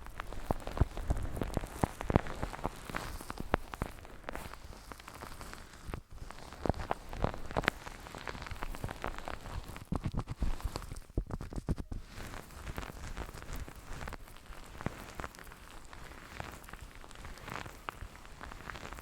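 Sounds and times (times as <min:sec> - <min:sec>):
fingers rubbing a microphone: 0:00.0 - 0:19.0.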